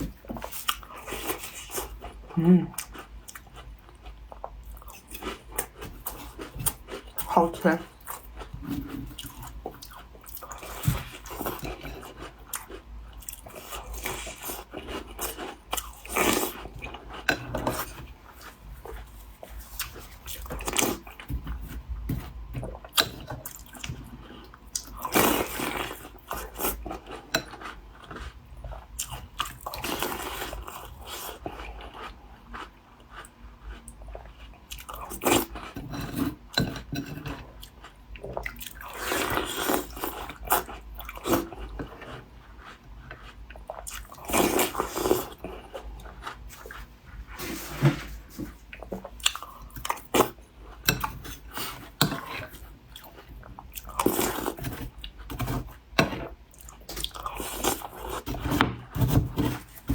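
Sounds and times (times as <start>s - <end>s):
chewing and crunching cookies: 0.0s - 47.3s, 48.4s - 59.9s.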